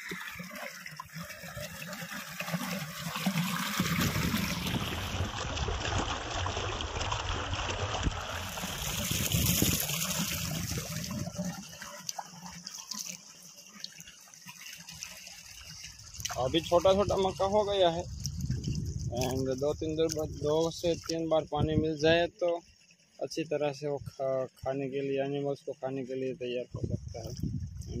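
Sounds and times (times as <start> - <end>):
water gushing and splashing: 0.0 - 25.1.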